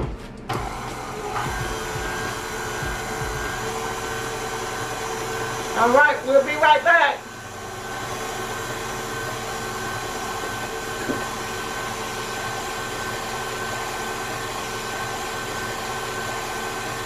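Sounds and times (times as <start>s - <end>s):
stand mixer motor whining: 0.5s - 17.0s
beater whipping thick batter: 0.6s - 17.0s.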